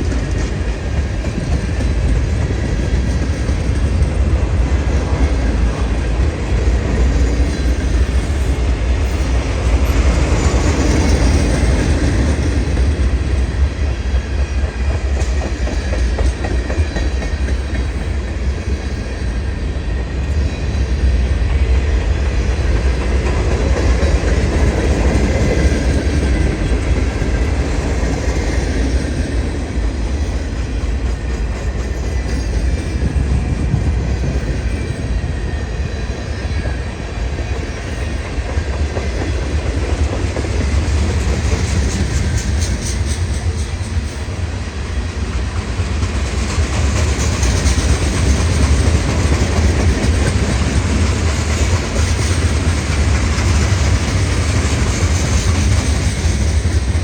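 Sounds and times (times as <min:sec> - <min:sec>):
heavy low train rumble: 0:00.0 - 0:57.0
train wheels clicking over rail joints: 0:00.0 - 0:57.0.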